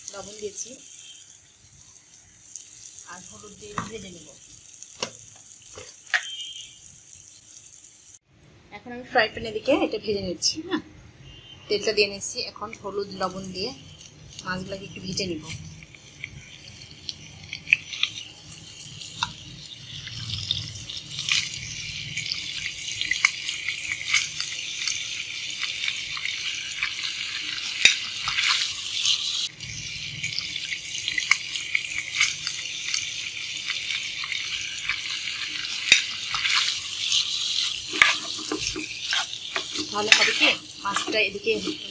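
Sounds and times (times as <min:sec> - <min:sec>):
fish frying in hot oil: 0:00.0 - 0:08.2, 0:12.2 - 0:41.9.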